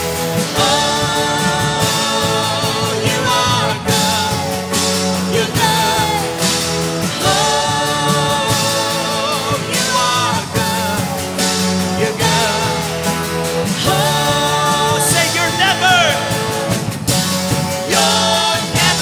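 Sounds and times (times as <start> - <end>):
worship band playing: 0.0 - 19.0
person singing: 0.2 - 16.9, 17.8 - 19.0.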